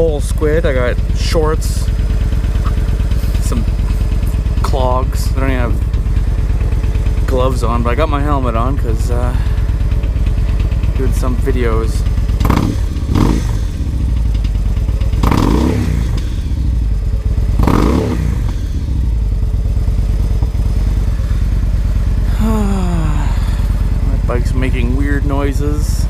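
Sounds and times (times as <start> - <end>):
engine nattering noises: 0.0 - 26.0
v-twin motorcycle engine revving: 0.0 - 26.0.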